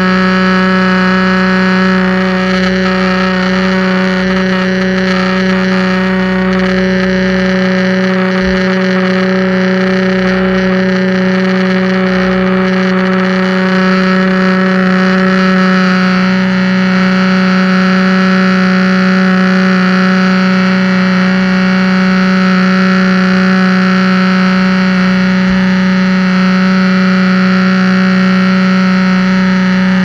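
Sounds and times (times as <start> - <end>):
pressure washer drone: 0.0 - 30.0.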